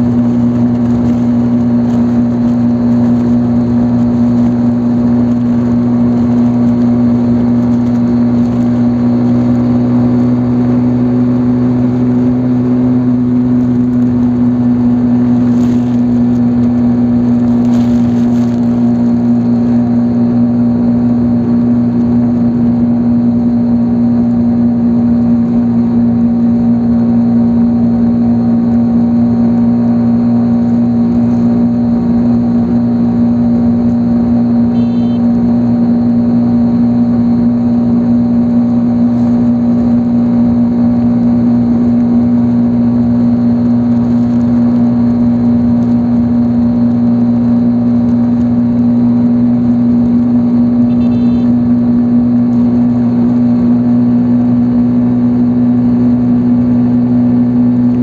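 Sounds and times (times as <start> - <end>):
motorcycle engine cruising: 0.0 - 58.0
road noise rushing: 0.0 - 58.0.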